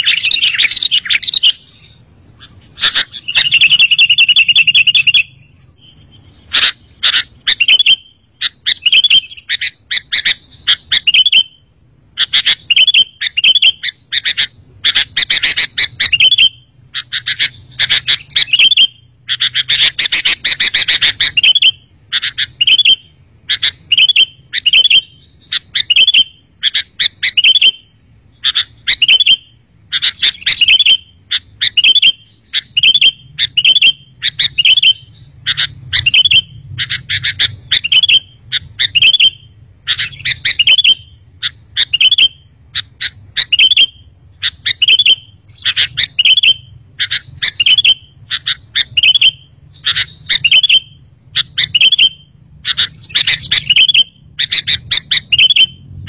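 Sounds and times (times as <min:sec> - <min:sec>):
harsh bird chatter: 0:00.0 - 0:11.4, 0:12.2 - 0:27.8, 0:28.4 - 0:55.7
bulbul chirping: 0:00.0 - 0:55.9.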